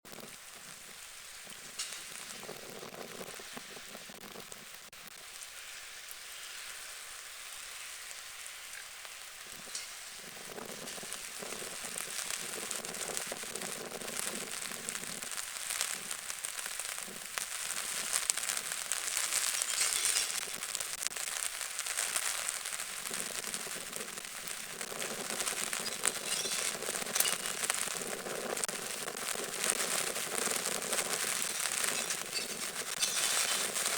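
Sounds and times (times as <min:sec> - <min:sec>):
rain falling onto water: 0:00.0 - 0:33.9.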